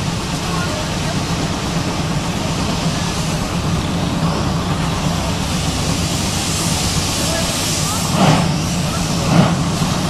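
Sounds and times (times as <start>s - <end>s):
steam locomotive hissing: 0.0s - 10.0s.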